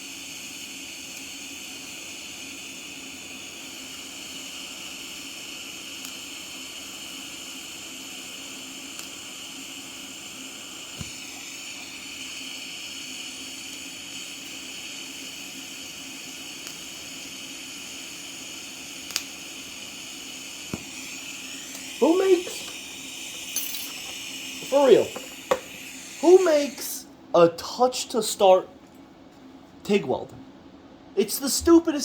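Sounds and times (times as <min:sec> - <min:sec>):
welder hissing with thin whine: 0:00.0 - 0:28.7.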